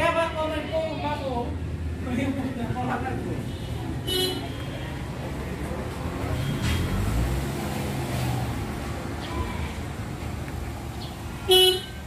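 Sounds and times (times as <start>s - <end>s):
low rumble of motor vehicles: 0.0s - 12.0s.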